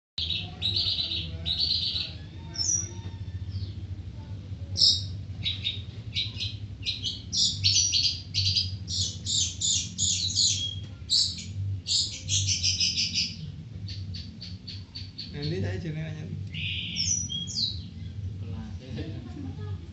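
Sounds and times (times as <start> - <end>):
bird chattering song: 0.2 - 3.7, 4.8 - 15.8, 16.5 - 18.2
steady low hum: 0.2 - 19.9.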